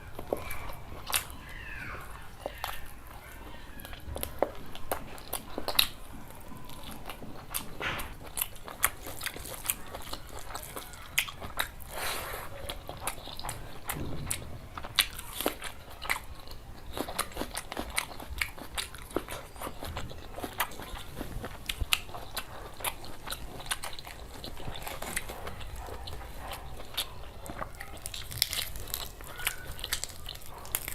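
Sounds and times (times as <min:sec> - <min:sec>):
person chewing and crunching: 0:00.0 - 0:30.9.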